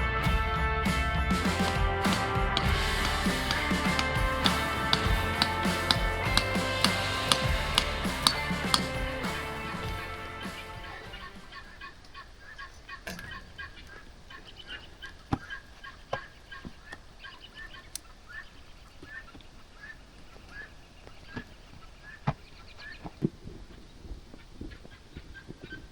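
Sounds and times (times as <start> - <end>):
bird calling: 1.5 - 25.9.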